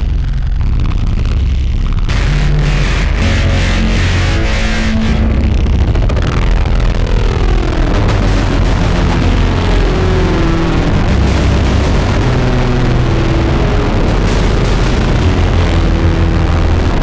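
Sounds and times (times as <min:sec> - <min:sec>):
distorted industrial drone music: 0:00.0 - 0:17.0.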